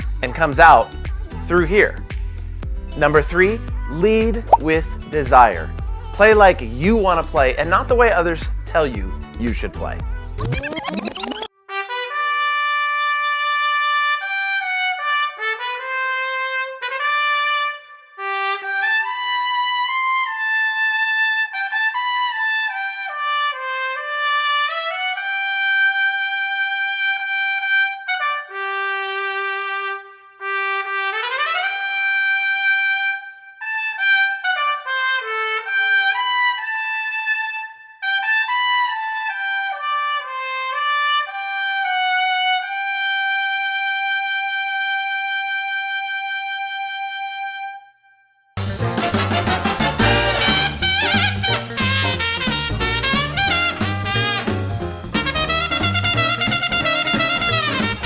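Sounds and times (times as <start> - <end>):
solo trumpet melody: 11.5 - 58.0.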